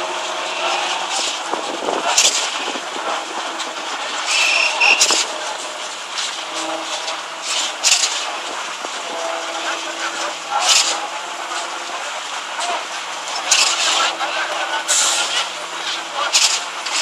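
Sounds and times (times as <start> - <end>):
concrete pump mechanical hum: 0.0 - 17.0.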